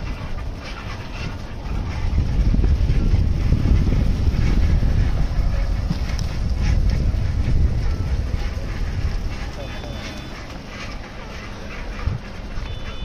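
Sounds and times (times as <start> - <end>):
road noise rumble: 0.0 - 13.0
wind buffeting microphone: 0.0 - 13.0.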